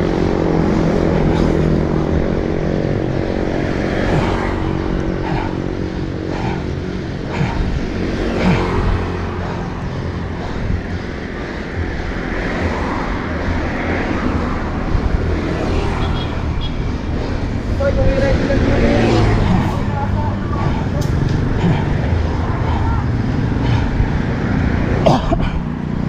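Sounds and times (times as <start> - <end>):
vehicle engines passing: 0.0 - 26.0
wind rumble on microphone: 0.0 - 26.0.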